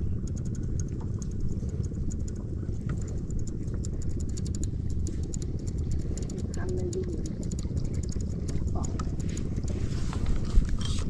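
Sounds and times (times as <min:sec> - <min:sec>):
faint ticks and clicks: 0:00.0 - 0:11.0
wind buffeting microphone: 0:00.0 - 0:11.0.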